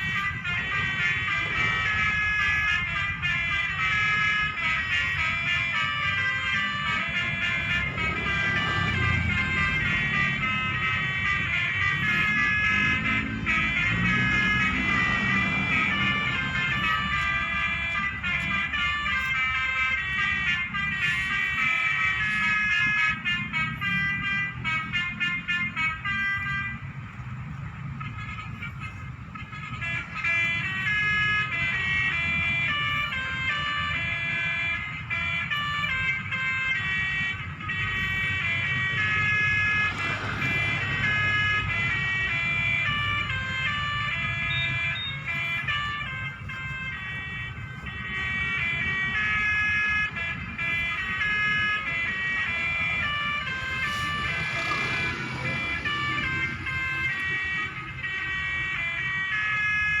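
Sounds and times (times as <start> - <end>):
multi-tone horn playing tune: 0.0 - 60.0.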